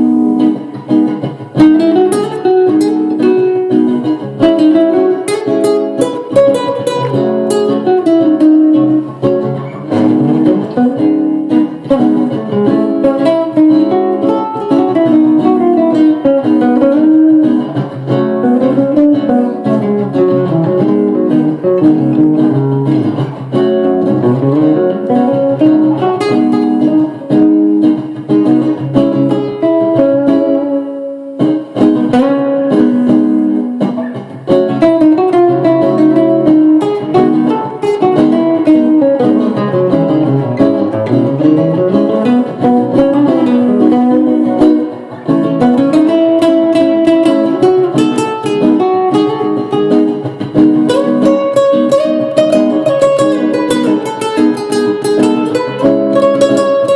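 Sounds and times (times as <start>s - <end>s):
solo guitar improvising: 0.0s - 56.9s.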